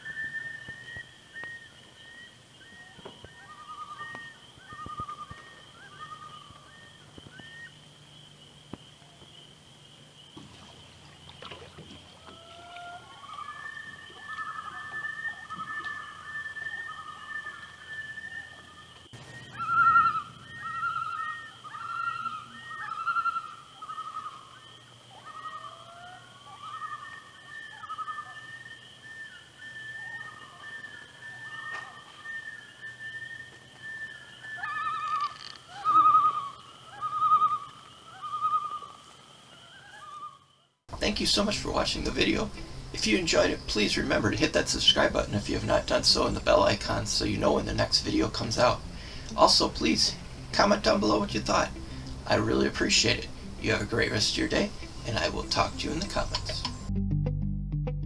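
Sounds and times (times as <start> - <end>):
loons calling: 0.0 - 9.6, 10.4 - 56.9.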